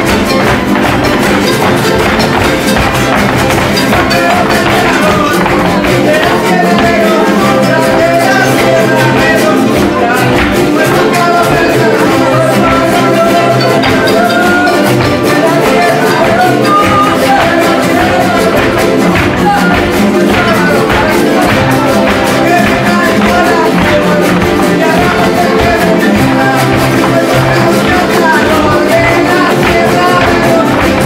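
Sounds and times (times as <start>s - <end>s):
strummed string instruments: 0.0s - 31.0s
voices singing: 0.0s - 31.0s.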